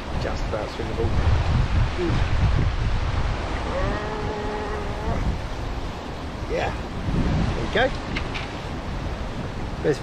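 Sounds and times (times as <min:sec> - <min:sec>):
floodwater rushing: 0:00.0 - 0:10.0
wind buffeting microphone: 0:00.0 - 0:10.0.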